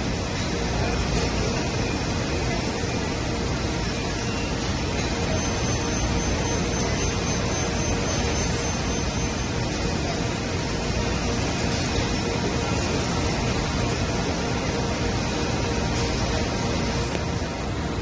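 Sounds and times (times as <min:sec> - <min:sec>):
thin high whine: 0:00.0 - 0:17.9
rushing machinery noise: 0:00.0 - 0:18.0.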